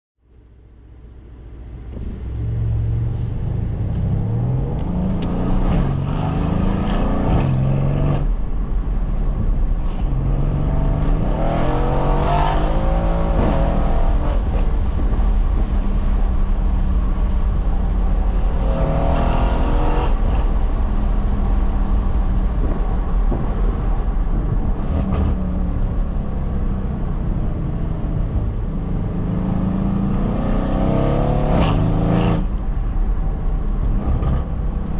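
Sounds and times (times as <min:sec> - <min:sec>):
road noise: 0:00.2 - 0:34.9
car engine revving: 0:01.8 - 0:09.2, 0:09.8 - 0:32.8.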